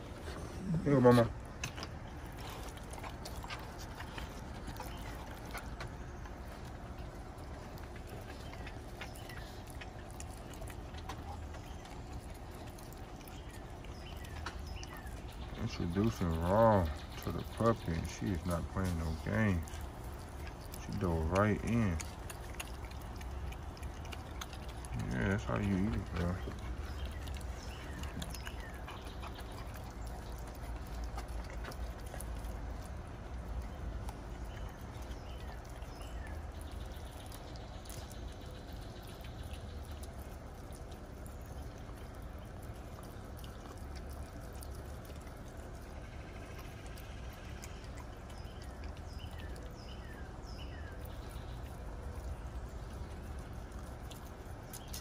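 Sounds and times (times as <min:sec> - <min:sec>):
low background rumble: 0:00.0 - 0:55.0
puppy chewing meat: 0:00.0 - 0:55.0.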